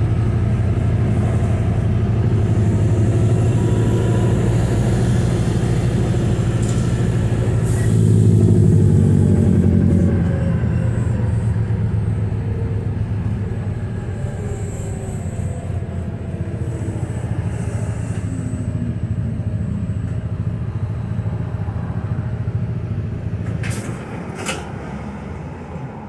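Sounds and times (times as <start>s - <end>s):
bus drivetrain rumble: 0.0s - 26.0s
road noise: 0.0s - 26.0s.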